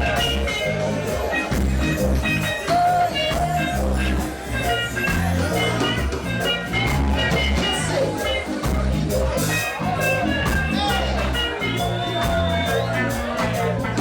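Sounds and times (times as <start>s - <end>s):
reggae band playing: 0.0s - 14.0s.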